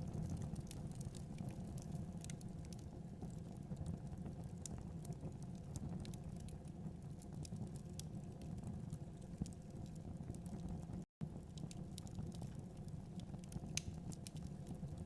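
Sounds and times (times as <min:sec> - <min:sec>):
fire crackling in a fireplace: 0:00.0 - 0:15.0
low rumble of flames: 0:00.0 - 0:15.0.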